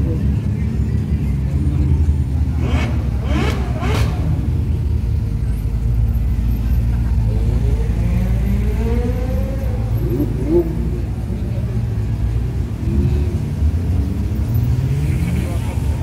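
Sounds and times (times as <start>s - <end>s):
sports car engines rumbling: 0.0s - 16.0s.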